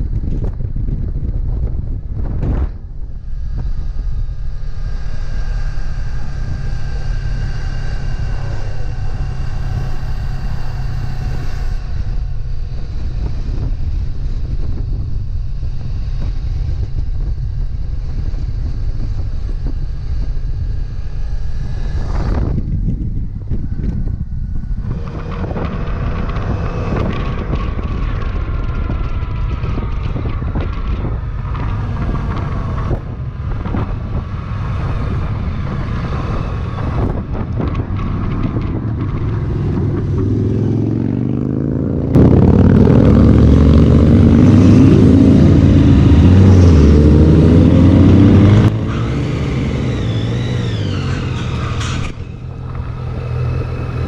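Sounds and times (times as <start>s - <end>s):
loud deep engine: 0.0s - 54.0s
motorcycle engine running: 0.0s - 54.0s
wind noise: 0.0s - 54.0s.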